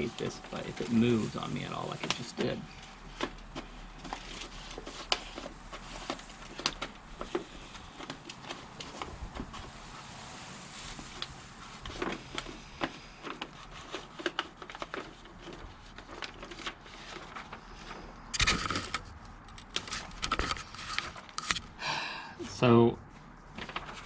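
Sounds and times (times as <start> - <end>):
paper rustling and crinkling: 0.0 - 21.8, 23.2 - 24.0.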